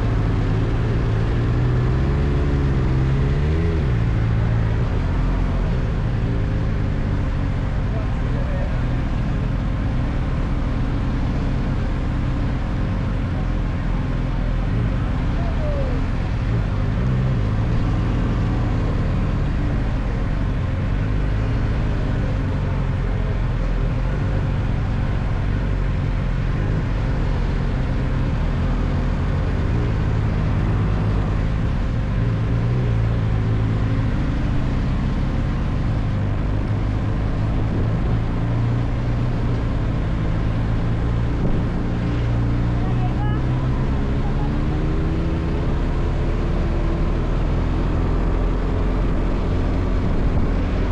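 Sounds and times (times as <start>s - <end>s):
car engine and tyres rumbling: 0.0s - 50.9s.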